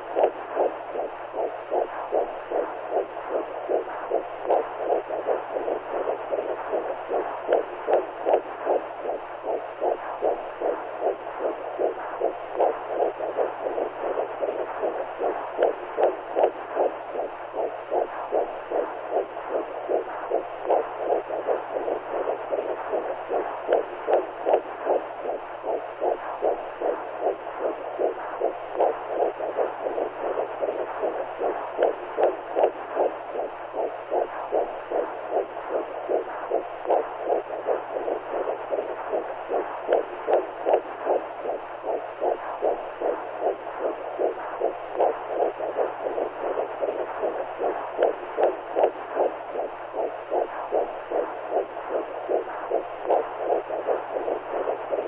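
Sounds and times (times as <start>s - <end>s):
faint low hum: 0.0s - 55.0s
pulsing heartbeat-like whooshing: 0.0s - 55.0s.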